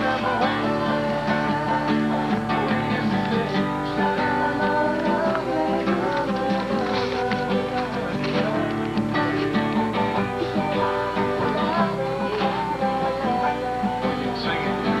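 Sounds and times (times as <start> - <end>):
acoustic guitar plucked: 0.0 - 15.0.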